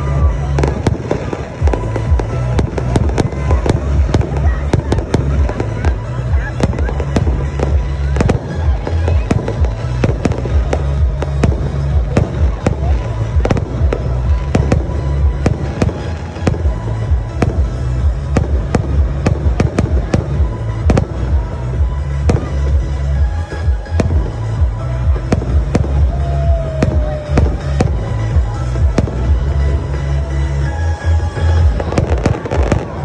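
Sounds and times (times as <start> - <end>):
firework bangs: 0.0 - 30.1, 31.3 - 33.0.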